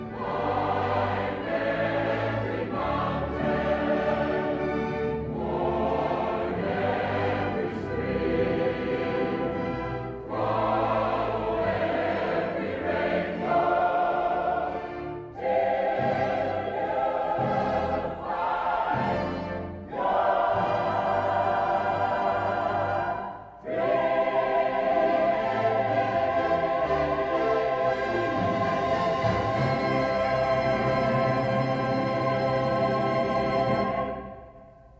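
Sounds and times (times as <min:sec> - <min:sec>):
orchestral accompaniment: 0:00.0 - 0:34.7
choir singing: 0:00.0 - 0:34.9.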